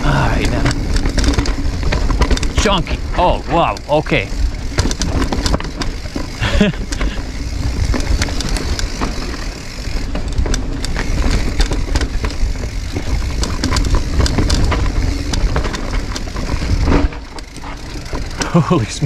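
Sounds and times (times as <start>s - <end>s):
wind rumble on microphone: 0.0s - 17.2s
mountain bike rattling over rocks: 0.0s - 19.0s.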